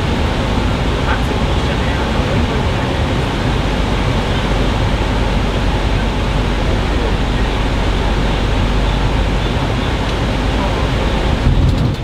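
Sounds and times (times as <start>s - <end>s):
bus road and engine noise: 0.0s - 12.0s.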